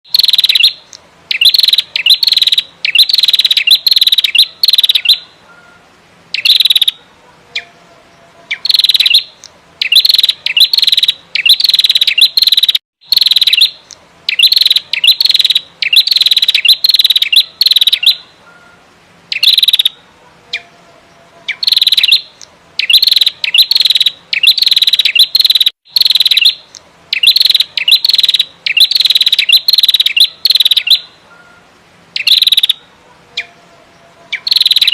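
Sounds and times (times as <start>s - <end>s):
bird calling in buzzy bursts: 0.1s - 34.9s.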